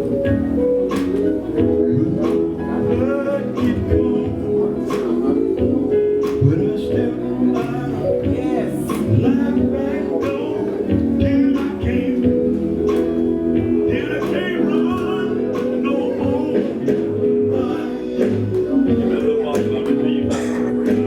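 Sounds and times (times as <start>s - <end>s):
bass guitar: 0.0s - 21.0s
drums: 0.0s - 21.0s
electric guitar: 0.0s - 21.0s
person singing: 0.0s - 21.0s.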